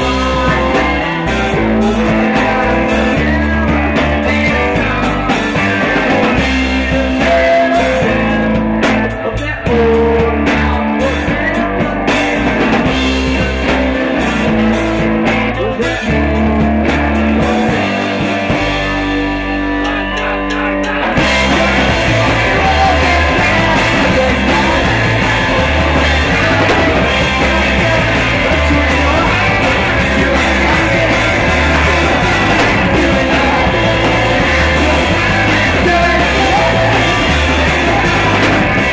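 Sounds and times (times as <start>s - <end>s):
bass guitar: 0.0s - 38.9s
drum kit: 0.0s - 38.9s
electric guitar: 0.0s - 38.9s
person singing: 0.0s - 38.9s.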